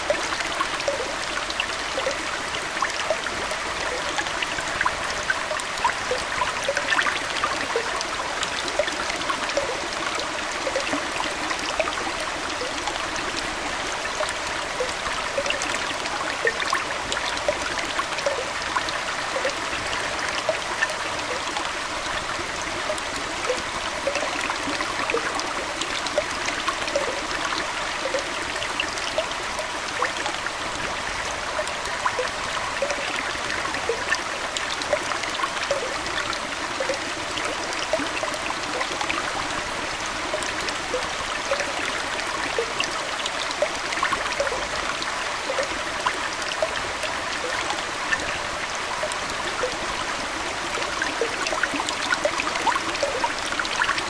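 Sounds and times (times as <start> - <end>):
aquarium water trickling: 0.0 - 54.0
water plinks and drips: 0.0 - 54.0.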